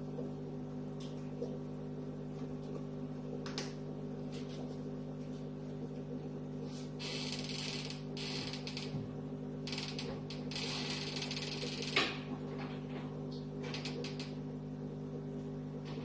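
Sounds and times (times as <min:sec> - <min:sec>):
aquarium air pump humming: 0:00.0 - 0:16.0.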